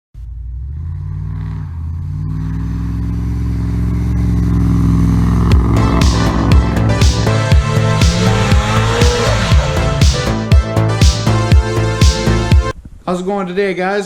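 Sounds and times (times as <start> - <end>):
vehicle engine running: 0.1 - 12.8.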